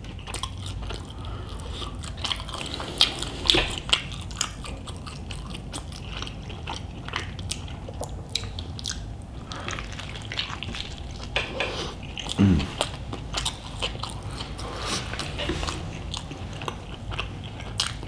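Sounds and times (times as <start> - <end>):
close chewing with mouth smacks: 0.0 - 18.0.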